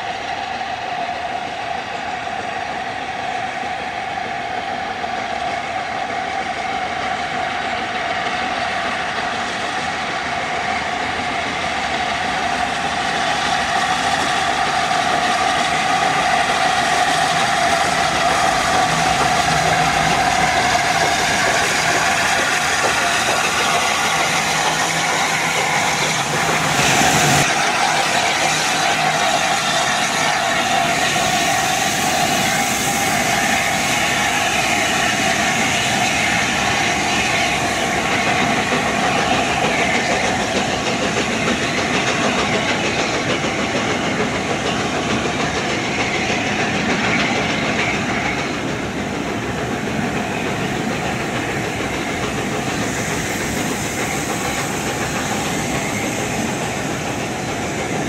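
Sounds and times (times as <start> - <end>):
steam locomotive hauling train: 0.0 - 58.0.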